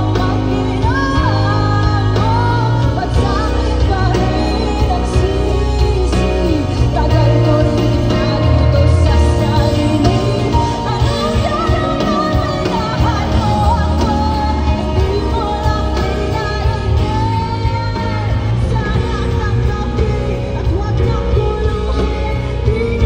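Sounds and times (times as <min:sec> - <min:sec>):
band with heavy bass: 0:00.0 - 0:23.0
woman singing pop ballad: 0:00.0 - 0:23.0.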